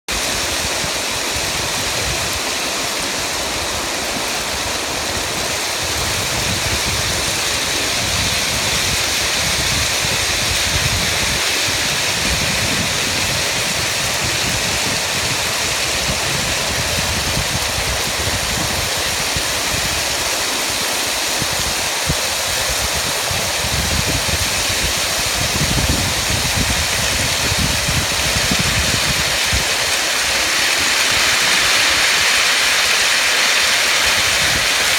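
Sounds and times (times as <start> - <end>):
floodwater rushing: 0.1 - 34.9
low rumble of water: 0.2 - 34.9.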